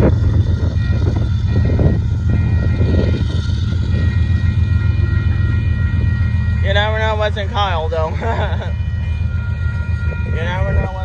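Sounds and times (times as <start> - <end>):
diesel locomotive engines rumbling: 0.0 - 11.0.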